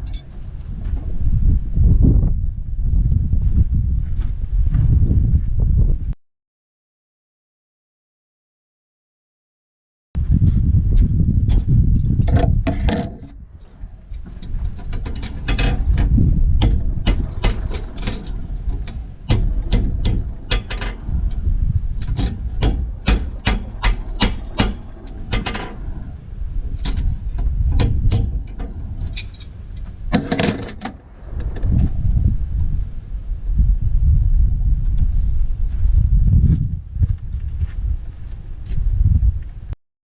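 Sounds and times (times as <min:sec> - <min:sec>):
low rumble: 0:00.0 - 0:06.2, 0:10.2 - 0:39.8.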